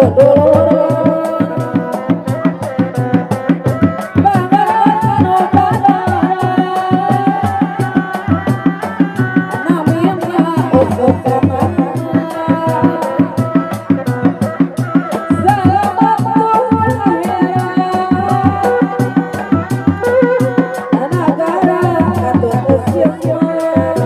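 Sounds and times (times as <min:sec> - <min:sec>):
drums in fast interlocking rhythm: 0:00.0 - 0:24.0.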